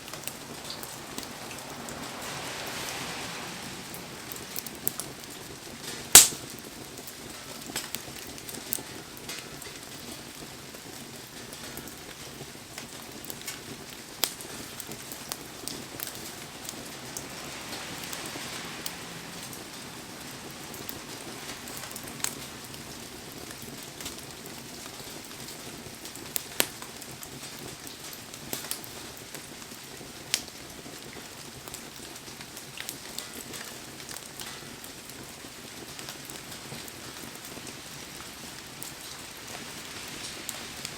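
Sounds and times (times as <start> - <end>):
bonfire crackling and popping: 0.0 - 40.9
rain hiss: 0.0 - 40.9.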